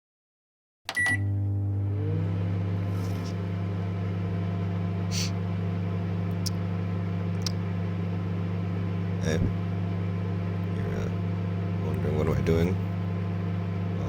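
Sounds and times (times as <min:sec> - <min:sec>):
microwave oven humming: 0:00.9 - 0:14.0.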